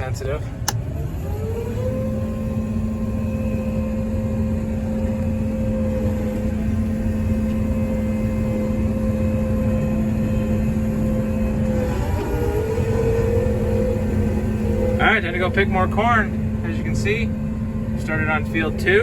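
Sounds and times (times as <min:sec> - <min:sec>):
combine engine low rumble: 0:00.0 - 0:19.0
two-tone machine whine: 0:00.0 - 0:19.0.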